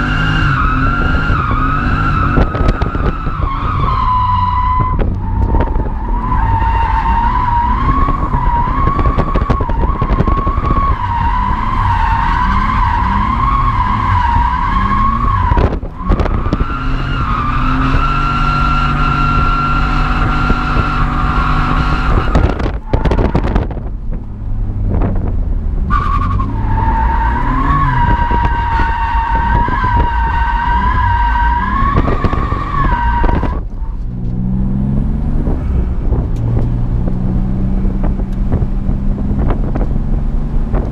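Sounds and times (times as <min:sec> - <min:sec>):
car tyres squealing: 0:00.0 - 0:23.9, 0:25.8 - 0:40.1
car engine running hard: 0:00.0 - 0:40.9.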